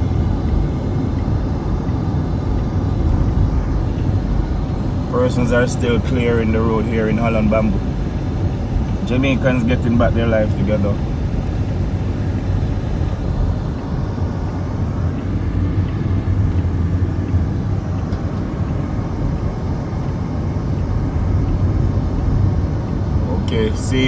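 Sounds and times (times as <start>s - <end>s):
car driving along road: 0.0s - 24.0s.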